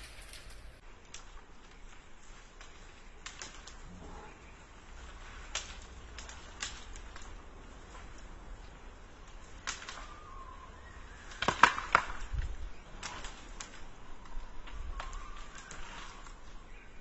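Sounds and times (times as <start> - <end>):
branches cracking and snapping: 0.0 - 17.0.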